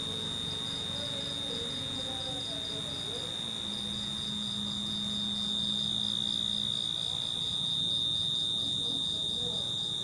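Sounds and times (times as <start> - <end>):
cricket trilling: 0.0 - 10.0
low steady hum: 0.0 - 10.0.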